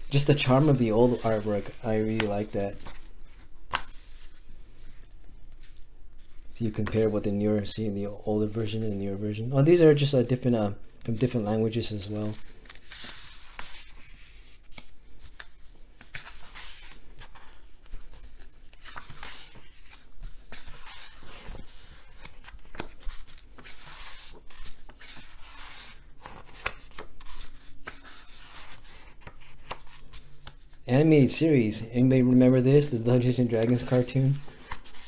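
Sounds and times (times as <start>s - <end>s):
book pages turning: 0.1s - 7.4s, 11.0s - 30.8s, 32.3s - 35.0s.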